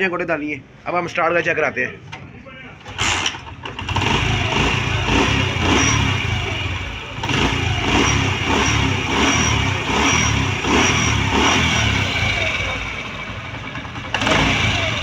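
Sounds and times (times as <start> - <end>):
motorcycle engine revving: 2.9 - 15.0.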